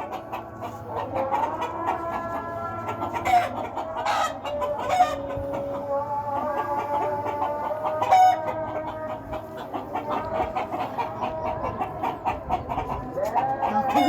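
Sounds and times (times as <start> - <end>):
clucking bird calls: 0.0 - 14.0.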